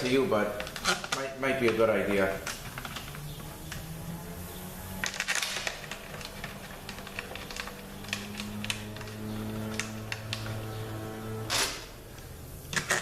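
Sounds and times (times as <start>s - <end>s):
steady low hum: 2.3s - 12.8s.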